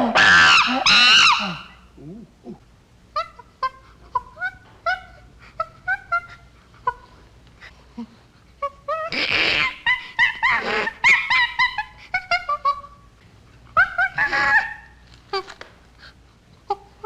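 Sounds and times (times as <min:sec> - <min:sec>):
chimpanzee whimpering: 0:00.0 - 0:13.0, 0:13.7 - 0:15.6.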